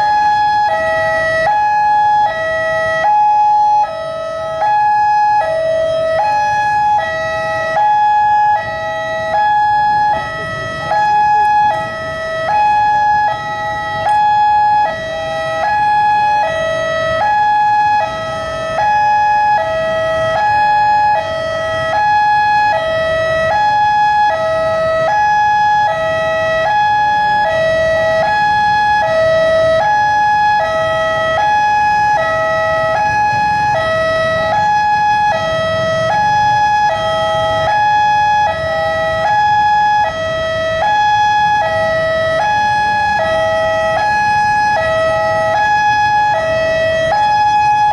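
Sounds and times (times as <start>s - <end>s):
road traffic rumble: 0.0s - 47.9s
two-tone level crossing alarm: 0.0s - 47.9s.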